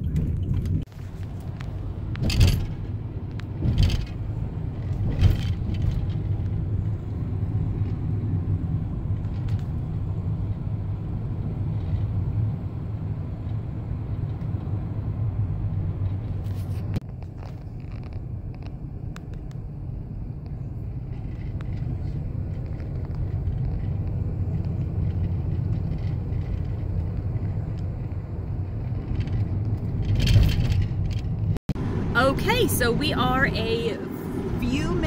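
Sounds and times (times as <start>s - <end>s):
car interior road rumble: 0.0s - 35.0s.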